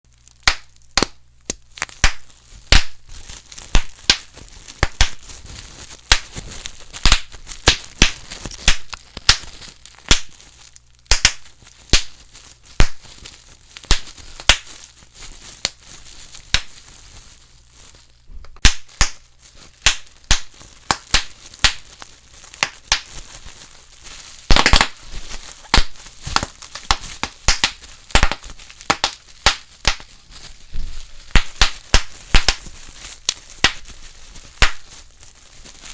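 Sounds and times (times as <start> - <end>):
bubble wrap popping: 0.1 - 35.9
plastic crinkling: 0.1 - 35.9.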